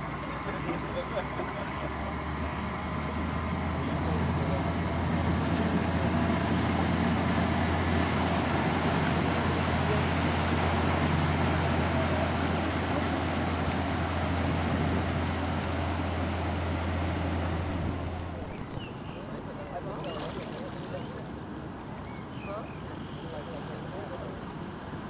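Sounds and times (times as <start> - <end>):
propeller wash churning: 0.0 - 21.3
boat engine droning: 0.0 - 25.0.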